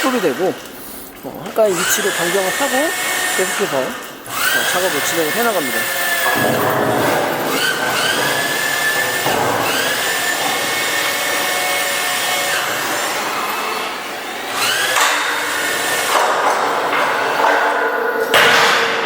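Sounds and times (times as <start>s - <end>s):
electric hoist motors whining: 0.0s - 19.0s.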